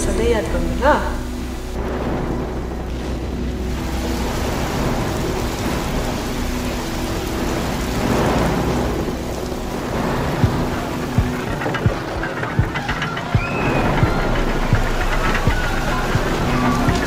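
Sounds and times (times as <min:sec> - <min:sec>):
heavy rain: 0:00.0 - 0:17.0
rolling thunder: 0:00.0 - 0:17.0.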